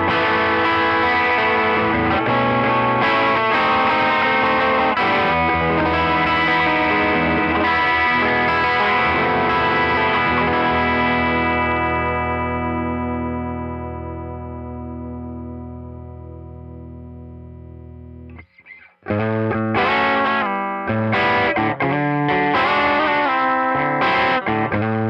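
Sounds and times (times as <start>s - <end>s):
overdriven electric guitar: 0.0s - 25.0s.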